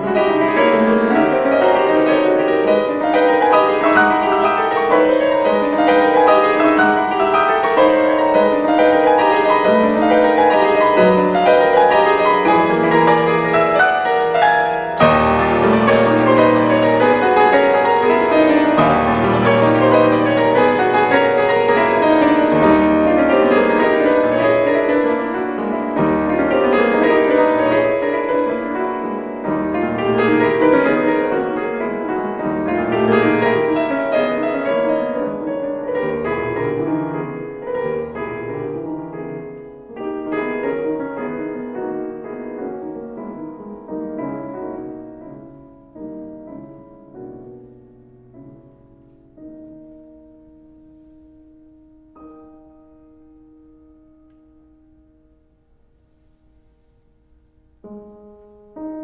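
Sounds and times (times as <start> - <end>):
solo piano music: 0.0 - 59.0.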